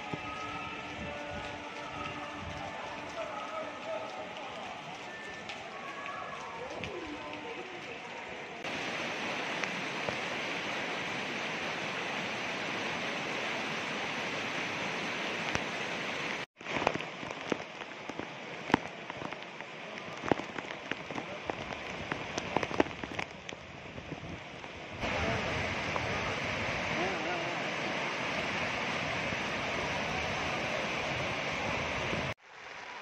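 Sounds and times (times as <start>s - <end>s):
floodwater rushing down steps: 0.0s - 33.0s
heavy rain falling: 0.0s - 33.0s.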